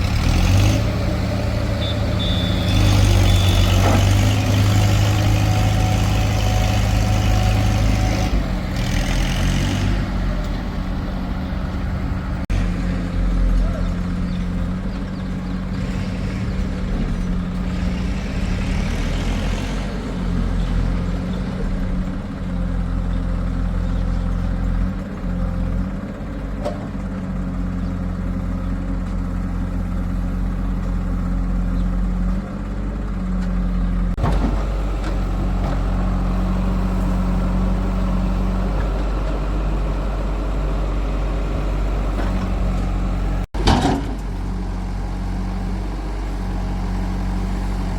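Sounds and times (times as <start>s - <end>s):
heavy diesel engines droning: 0.0s - 47.9s.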